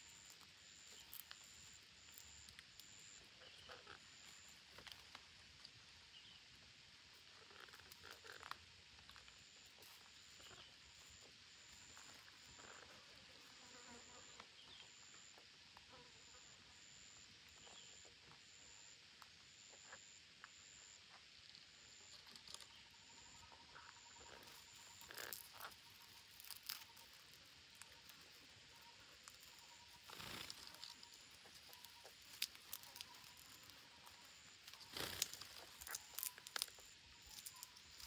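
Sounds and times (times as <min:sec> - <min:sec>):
insect chirping: 0:00.0 - 0:38.0.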